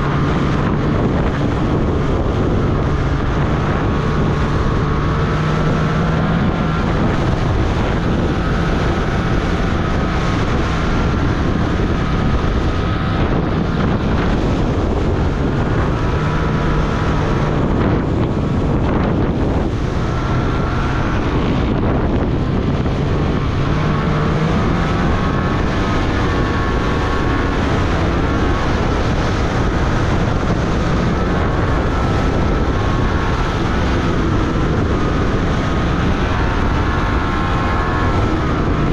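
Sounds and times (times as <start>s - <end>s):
snowmobile engine running hard: 0.0s - 38.9s
wind noise on microphone: 0.0s - 38.9s.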